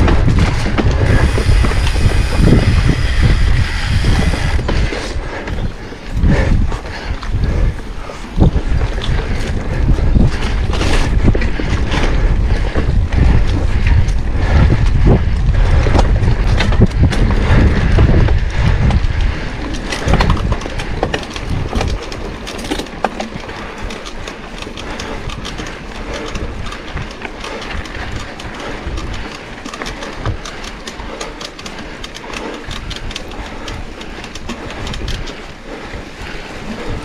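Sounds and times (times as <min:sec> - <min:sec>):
bike clicks and rattles: 0:00.0 - 0:37.0
wind buffeting microphone: 0:00.0 - 0:37.0.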